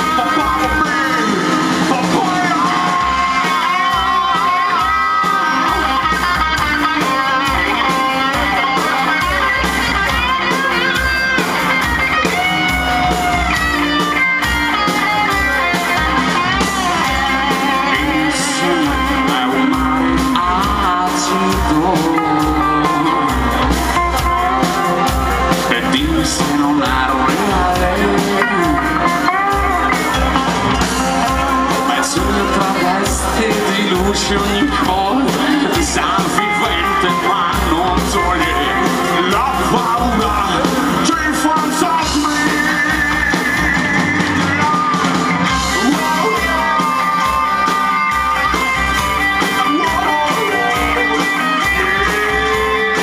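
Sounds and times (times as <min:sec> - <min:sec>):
bass: 0:00.0 - 0:53.0
drums beating: 0:00.0 - 0:53.0
electric guitars: 0:00.0 - 0:53.0.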